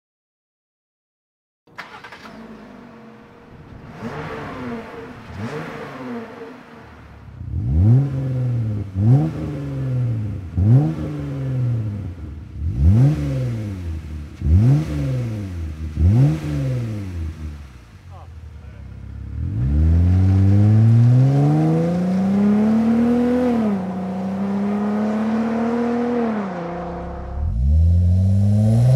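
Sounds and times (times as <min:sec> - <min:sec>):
car engine revving: 0:01.7 - 0:28.9.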